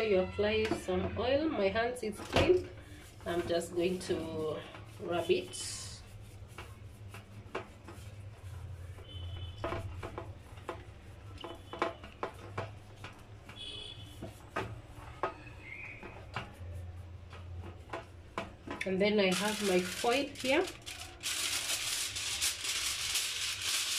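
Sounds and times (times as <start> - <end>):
hand rubbing oil on metal tray: 0.0 - 23.9.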